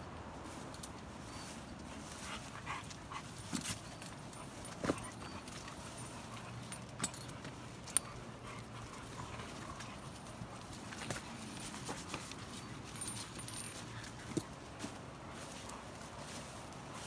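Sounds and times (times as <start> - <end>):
faint dog noises: 1.2 - 17.0.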